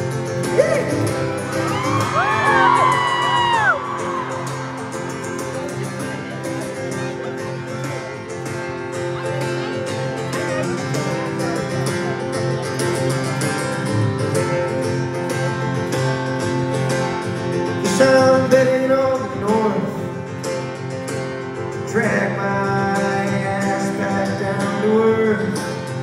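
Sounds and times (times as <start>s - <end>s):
strummed acoustic guitar: 0.0s - 26.0s.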